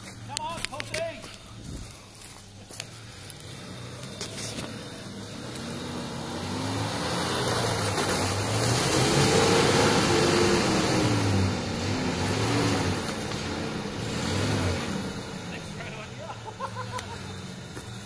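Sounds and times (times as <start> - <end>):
truck engine revving: 2.7 - 18.0.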